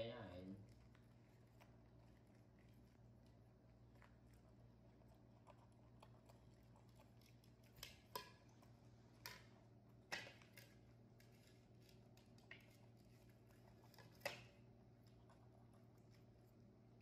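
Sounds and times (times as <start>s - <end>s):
monkeys crunching corn: 0.6s - 17.0s.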